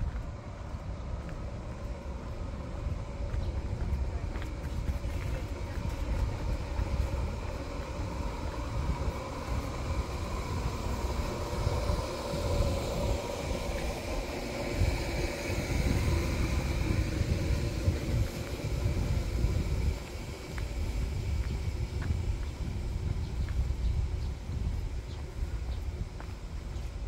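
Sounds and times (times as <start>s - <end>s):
humming whine: 0.0s - 27.0s
passing vehicles rumble: 0.0s - 27.0s.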